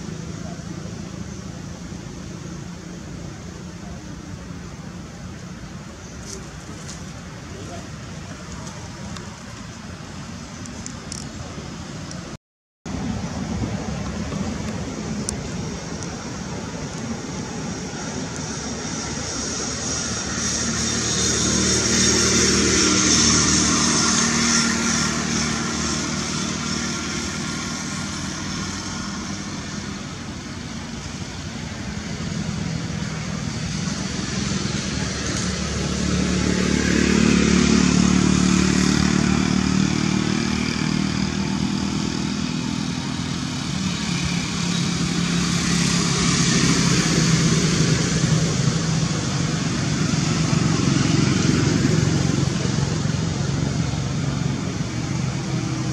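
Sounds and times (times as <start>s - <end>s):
passing motor vehicles: 0.0s - 55.9s.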